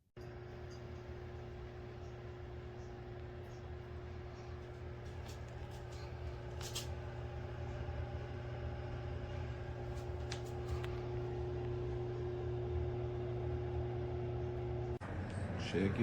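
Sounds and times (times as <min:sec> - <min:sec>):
low machine hum: 0:00.2 - 0:16.0.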